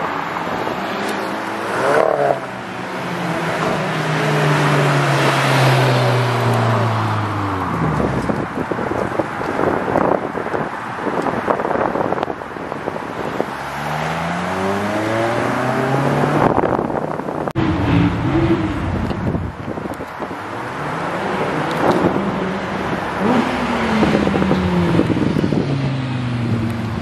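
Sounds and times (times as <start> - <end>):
car revving and passing by: 0.2 - 8.5, 13.1 - 27.0
sports car engines accelerating: 0.3 - 12.3, 13.4 - 27.0.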